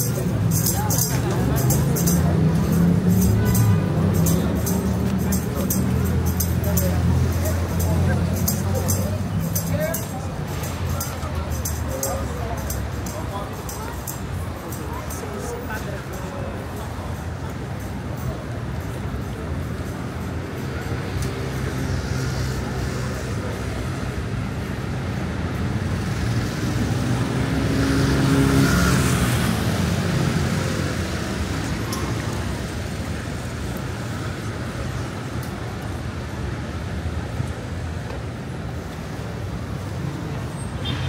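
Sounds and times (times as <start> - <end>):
city traffic: 0.0 - 41.0.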